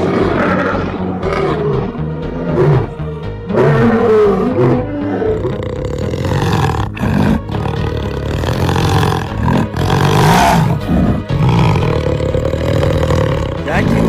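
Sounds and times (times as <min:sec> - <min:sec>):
lions roaring and growling: 0:00.0 - 0:14.0.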